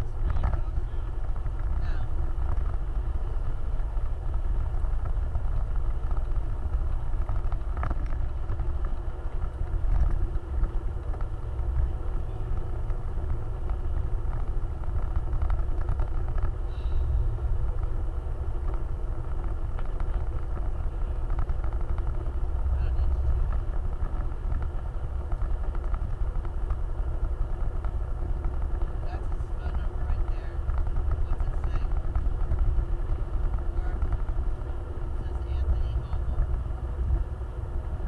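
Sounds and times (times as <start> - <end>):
vehicle engine rumbling off-road: 0.0 - 38.0.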